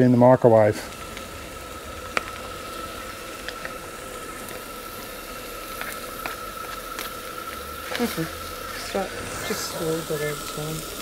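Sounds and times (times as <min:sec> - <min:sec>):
rice sizzling in a wok: 0:00.0 - 0:11.0.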